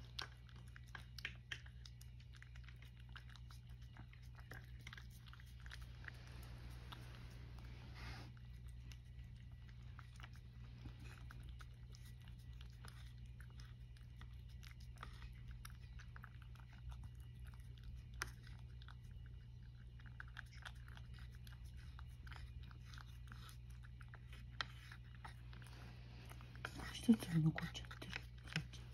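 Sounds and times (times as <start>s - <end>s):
cat chewing and licking: 0.0s - 28.9s
low hum: 0.0s - 28.9s.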